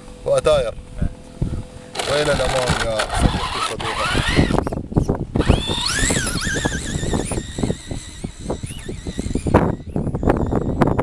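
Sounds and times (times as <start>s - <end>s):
wind buffeting microphone: 0.6s - 11.0s
electric motor whining: 1.9s - 11.0s.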